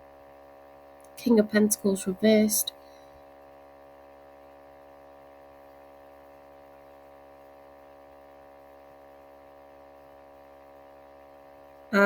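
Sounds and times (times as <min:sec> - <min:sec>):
electrical hum and buzz: 0:00.0 - 0:12.0.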